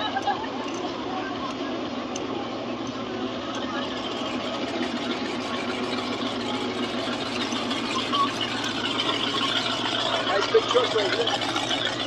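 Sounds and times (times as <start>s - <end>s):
people talking: 0.0s - 12.0s
pickup truck engine running: 0.0s - 12.0s.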